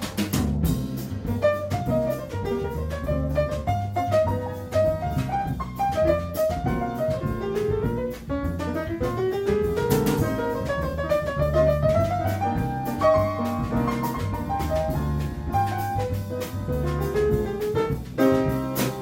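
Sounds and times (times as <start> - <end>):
cymbals and drums: 0.0 - 19.0
piano melody: 0.0 - 19.0
walking bass line: 0.0 - 19.0.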